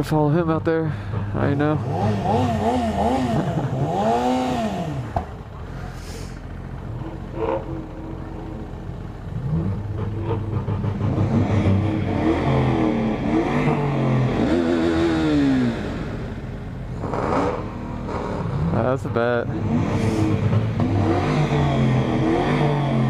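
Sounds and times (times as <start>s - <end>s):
vehicle engines revving: 0.0s - 23.0s.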